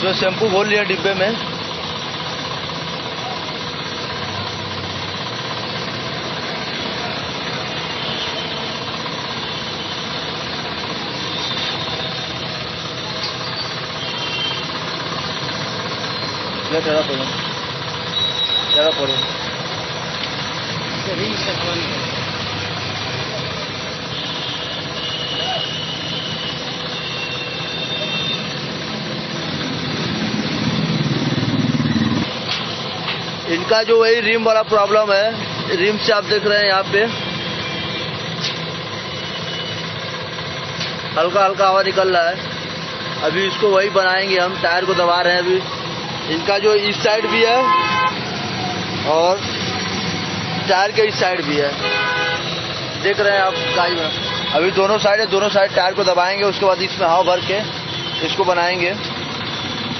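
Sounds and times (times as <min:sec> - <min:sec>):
machine running: 0:00.0 - 0:59.9.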